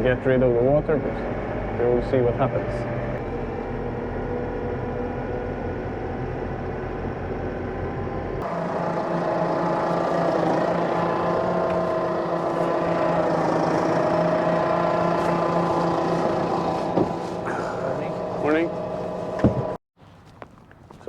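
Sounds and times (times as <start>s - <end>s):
engine with pitched hum: 0.0s - 19.8s
vehicle engine running: 0.0s - 19.8s.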